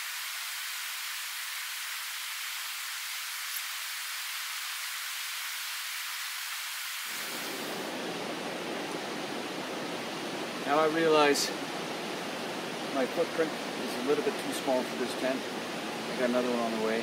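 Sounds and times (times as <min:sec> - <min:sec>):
fast-running river rushing: 0:00.0 - 0:17.0.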